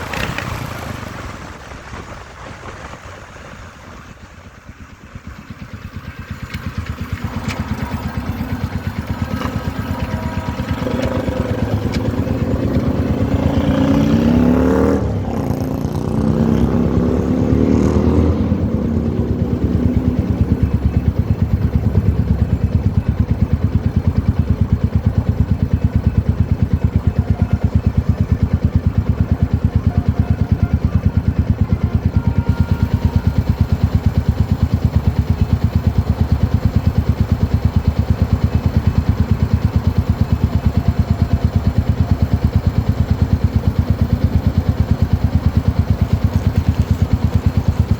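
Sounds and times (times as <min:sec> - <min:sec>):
motorcycle engine accelerating: 0:00.0 - 0:02.9, 0:04.0 - 0:47.9.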